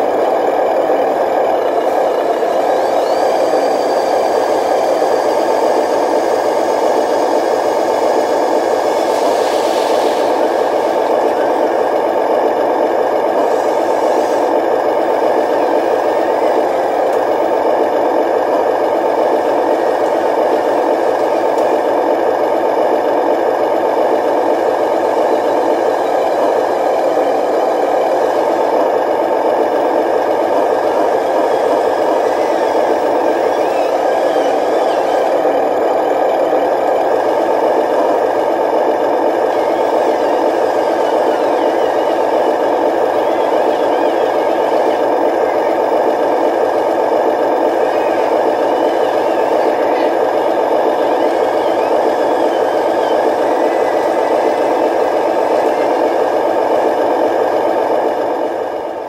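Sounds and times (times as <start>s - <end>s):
toy truck motor whirring: 0.9s - 11.8s, 12.5s - 59.0s.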